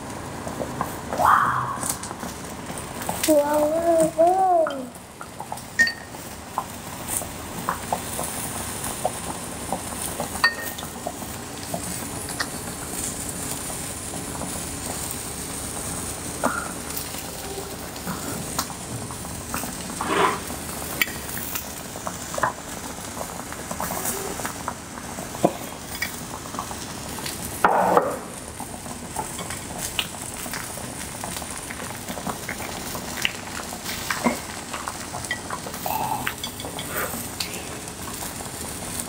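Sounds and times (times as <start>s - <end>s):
beef sizzling on a grill pan: 0.0s - 39.0s.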